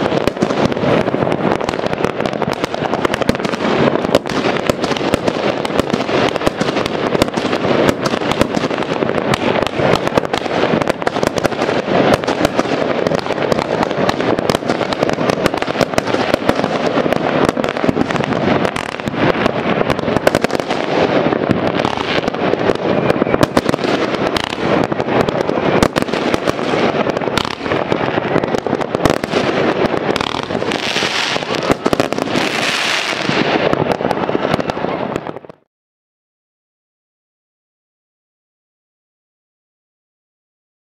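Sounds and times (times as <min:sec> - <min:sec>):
fireworks bangs and pops: 0:00.0 - 0:35.7
hissing crackle: 0:00.0 - 0:35.7.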